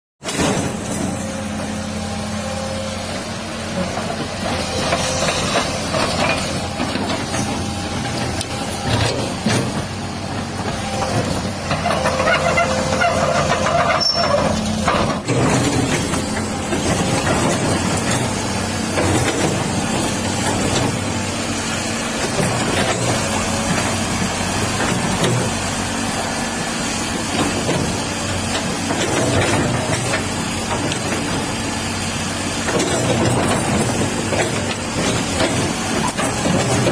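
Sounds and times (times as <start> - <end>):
excavator diesel engine running: 0.2 - 36.9.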